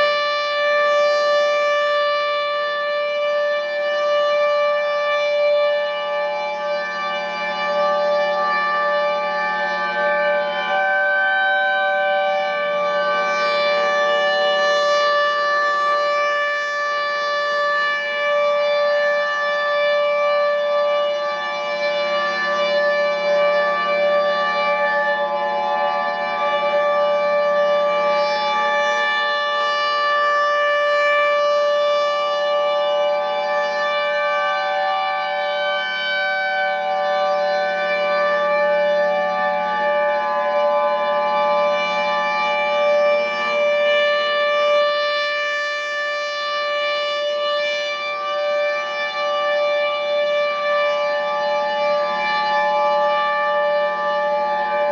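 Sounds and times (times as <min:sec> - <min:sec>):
warning sirens steady tone: 0:00.0 - 0:54.9.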